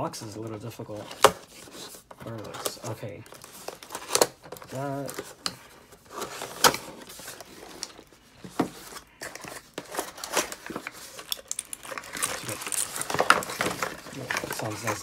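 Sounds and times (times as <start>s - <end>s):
plastic wrapping crinkling: 0.9s - 15.0s
cardboard box opening: 1.0s - 15.0s.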